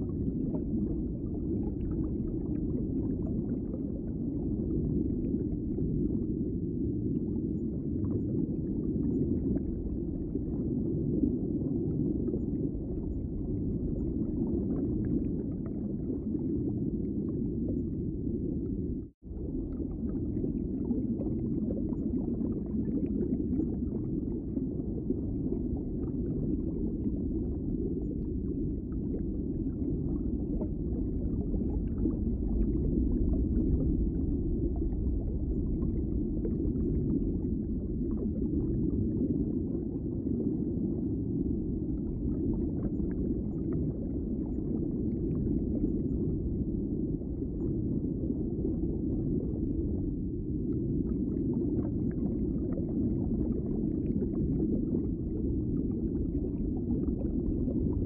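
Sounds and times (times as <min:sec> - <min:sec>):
low underwater rumble: 0:00.0 - 0:58.0.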